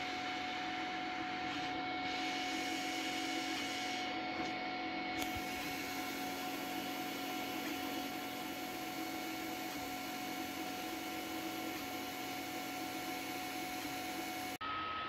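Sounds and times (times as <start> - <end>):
printer fans and motors whirring: 0.0 - 15.0.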